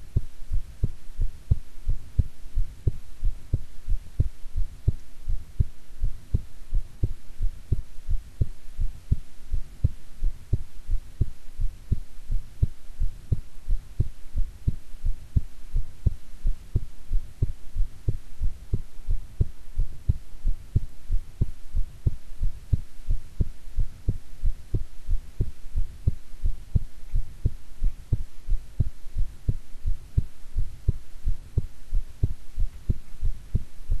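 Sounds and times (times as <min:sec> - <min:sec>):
heartbeat thumps: 0:00.0 - 0:34.0.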